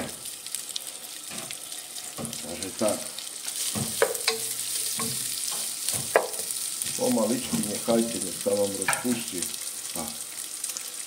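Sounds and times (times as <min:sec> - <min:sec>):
bacon sizzling in a pot: 0:00.0 - 0:11.0.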